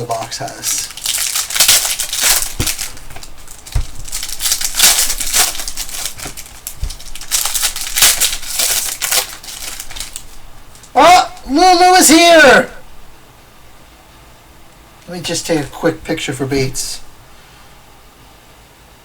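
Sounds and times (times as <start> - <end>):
foil wrappers crinkling: 0.0 - 13.2, 15.0 - 17.4.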